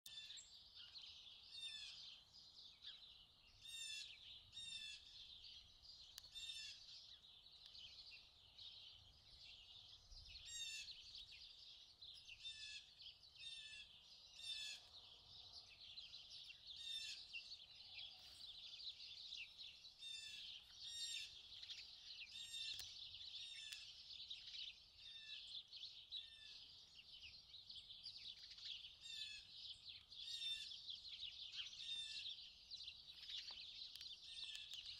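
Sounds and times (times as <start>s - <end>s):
birds twittering: 0.0s - 34.9s
short high songbird calls: 0.1s - 3.0s, 3.6s - 5.5s, 6.1s - 7.2s, 9.6s - 15.0s, 16.2s - 26.7s, 28.3s - 34.9s.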